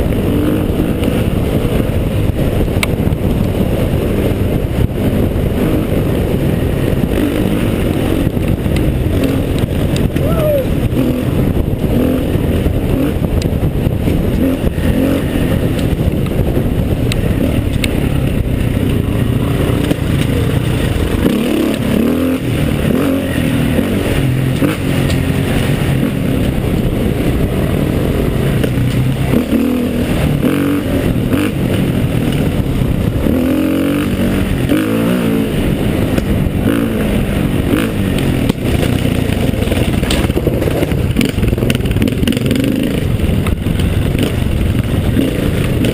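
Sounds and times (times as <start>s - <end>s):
motorcycle engine under load: 0.0s - 45.9s.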